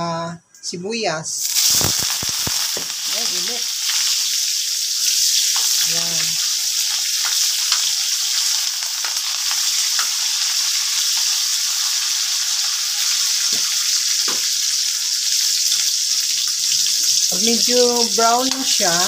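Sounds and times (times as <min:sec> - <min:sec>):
onions sizzling in hot oil: 0:01.4 - 0:19.0.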